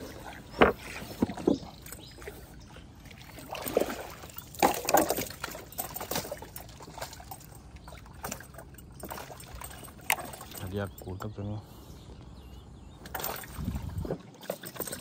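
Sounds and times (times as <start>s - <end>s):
water splashes: 0.0s - 11.1s, 13.0s - 15.0s.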